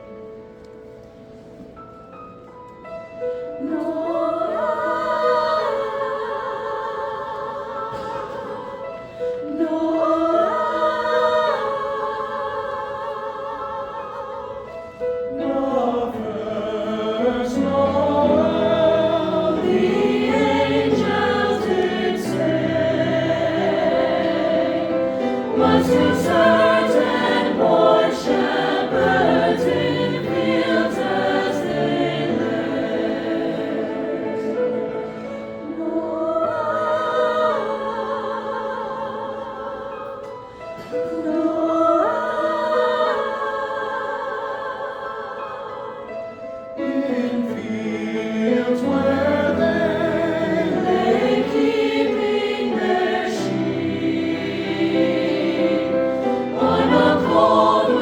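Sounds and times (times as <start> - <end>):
choir singing: 3.1 - 58.0.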